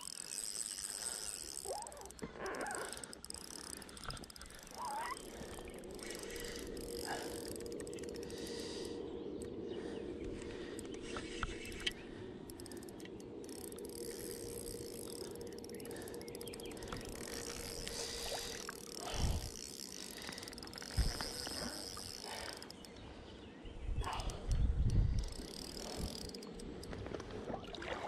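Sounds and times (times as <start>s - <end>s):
fishing reel whirring: 0.0s - 9.6s, 10.6s - 23.0s, 24.0s - 27.0s.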